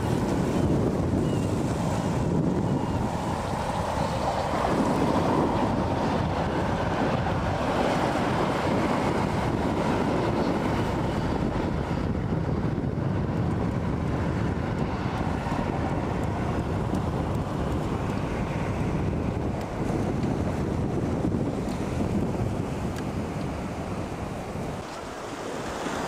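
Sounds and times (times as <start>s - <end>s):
train running past: 0.0s - 22.0s
wind buffeting microphone: 0.0s - 26.0s.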